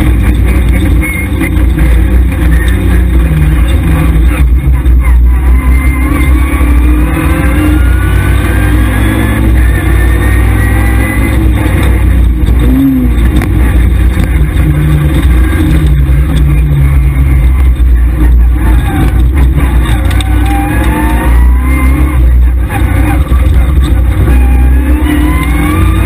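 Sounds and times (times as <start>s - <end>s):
rally car engine revving: 0.0s - 26.0s
road and tyre rumble: 0.0s - 26.0s.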